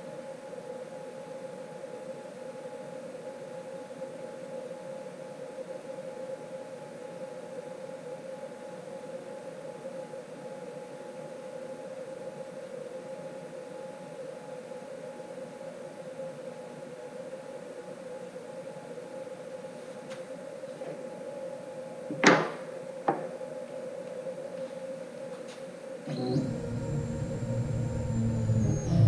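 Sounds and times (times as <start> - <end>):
machine humming whine: 0.0 - 29.0.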